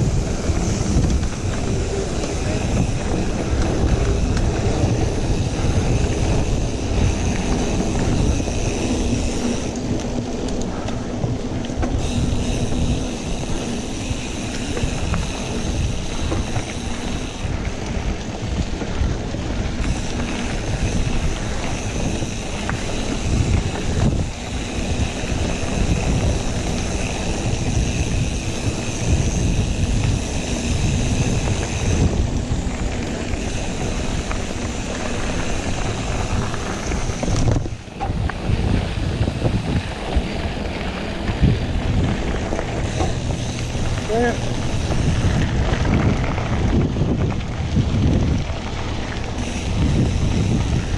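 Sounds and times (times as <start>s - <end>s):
bike rattling over dirt trail: 0.0s - 50.9s
wind on microphone: 0.0s - 50.9s.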